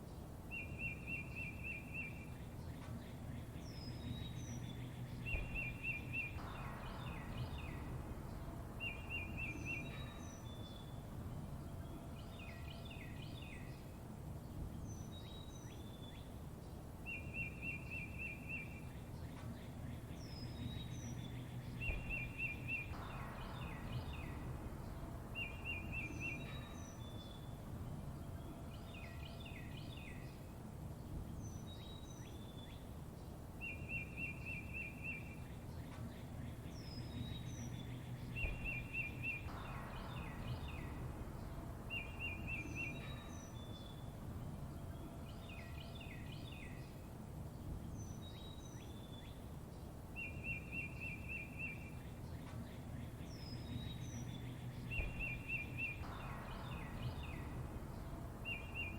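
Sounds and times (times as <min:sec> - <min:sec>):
low background rumble: 0:00.0 - 0:58.9
songbirds chirping and singing: 0:00.0 - 0:58.9.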